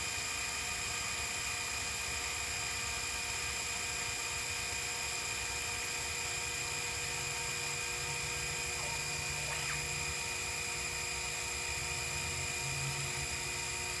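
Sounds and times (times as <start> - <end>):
mill motor whine: 0.0 - 14.0.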